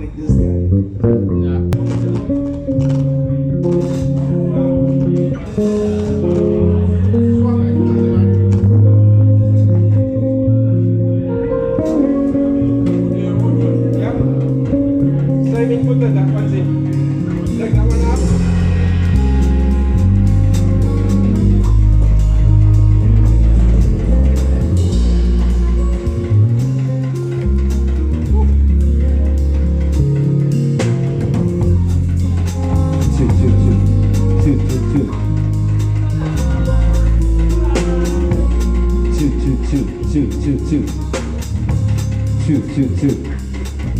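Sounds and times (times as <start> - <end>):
bass guitar low notes: 0.0 - 43.9
drum kit beat: 0.0 - 43.9
guitar: 0.0 - 43.9.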